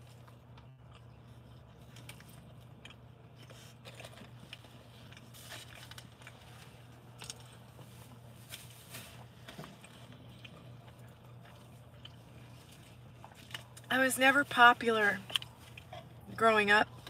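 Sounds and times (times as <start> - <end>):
biscuit being chewed: 0.0 - 13.9, 15.2 - 17.0
low vehicle hum: 0.0 - 17.0.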